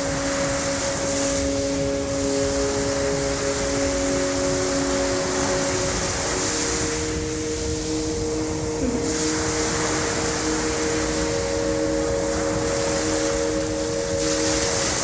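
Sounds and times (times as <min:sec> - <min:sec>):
ambient music sustained tones: 0:00.0 - 0:15.0
steady rushing noise: 0:00.0 - 0:15.0.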